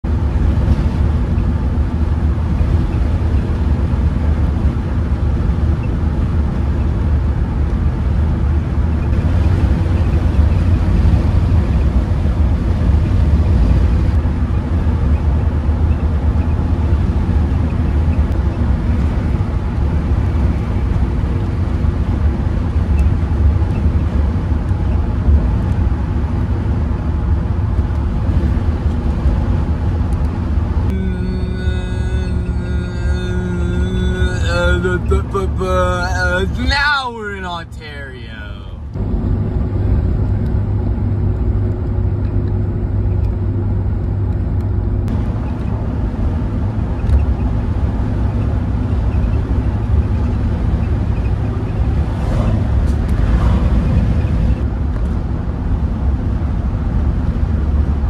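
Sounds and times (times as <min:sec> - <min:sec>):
camper van driving on highway: 0:00.0 - 0:58.0.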